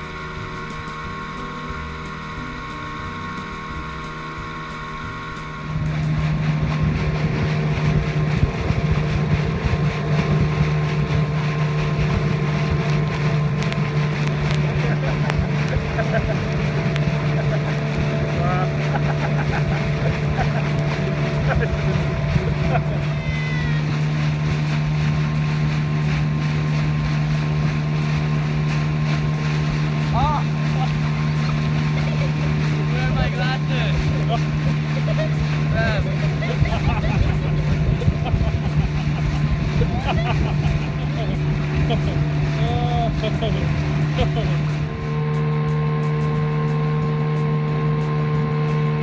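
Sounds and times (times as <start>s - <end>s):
outboard motor running: 0.0s - 49.0s
wind and water rushing: 0.0s - 49.0s.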